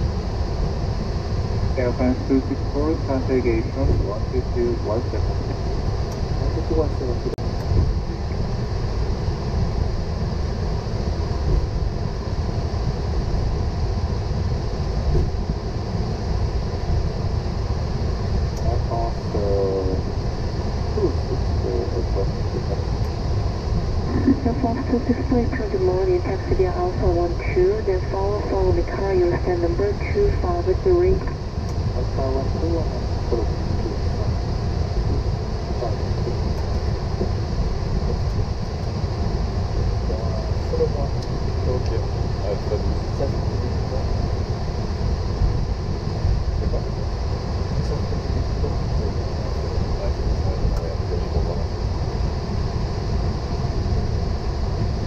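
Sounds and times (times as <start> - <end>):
aircraft low rumble and air noise: 0.0 - 55.0.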